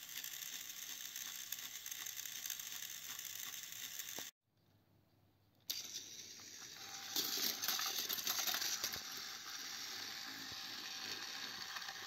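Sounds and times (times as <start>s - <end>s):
toy train motors whirring: 0.0s - 4.4s, 5.7s - 12.0s.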